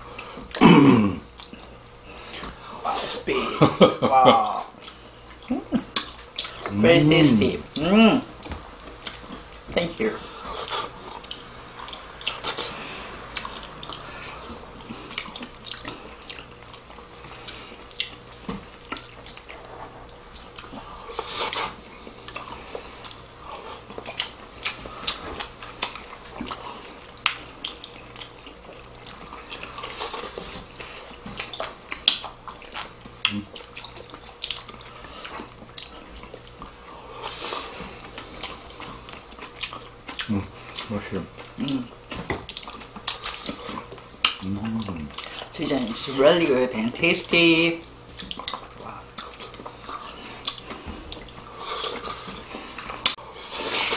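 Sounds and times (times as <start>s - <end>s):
wet chewing sounds: 1.2s - 3.2s, 4.6s - 46.2s, 47.8s - 53.9s.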